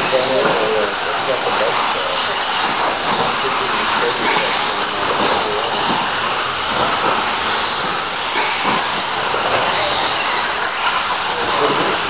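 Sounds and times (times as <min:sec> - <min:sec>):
rc cars whirring on dirt: 0:00.0 - 0:12.0.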